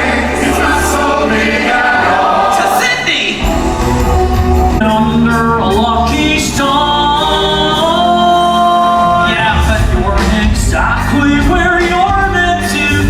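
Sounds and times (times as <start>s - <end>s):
orchestral accompaniment: 0.0s - 13.0s
show-tune singing: 0.0s - 13.0s.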